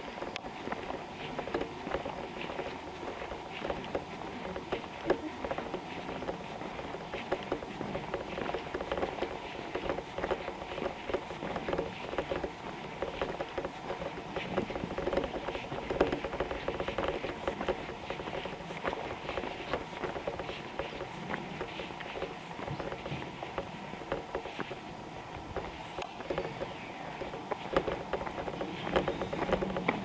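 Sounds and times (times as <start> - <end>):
footsteps on paved road: 0.0 - 30.0.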